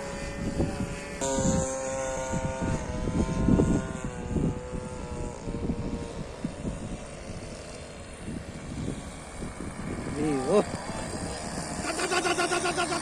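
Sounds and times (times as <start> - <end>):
model plane engine droning: 0.0 - 13.0.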